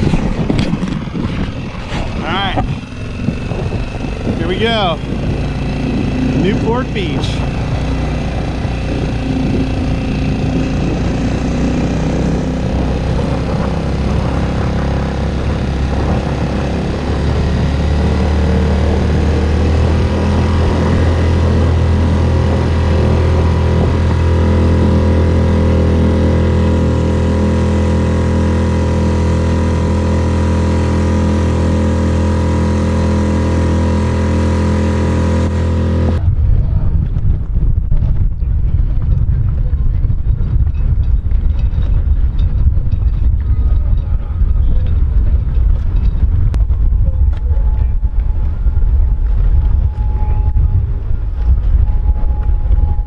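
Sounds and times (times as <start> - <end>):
outboard motor running: 0.0 - 37.5, 38.3 - 53.0.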